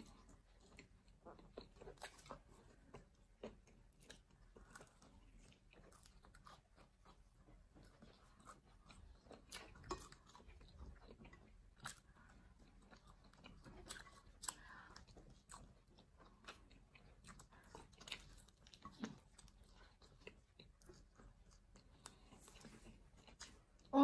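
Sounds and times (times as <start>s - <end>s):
people chewing pizza: 0.0s - 24.0s.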